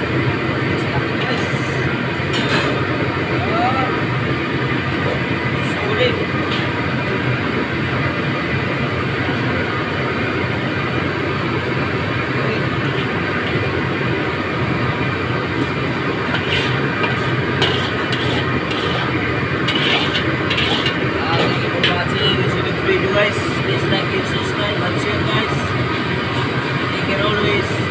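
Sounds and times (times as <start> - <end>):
rushing machine drone: 1.7 - 27.9.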